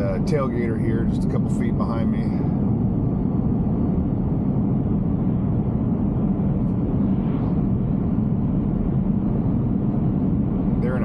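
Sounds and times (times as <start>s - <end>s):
road and tyre noise: 0.0s - 11.0s.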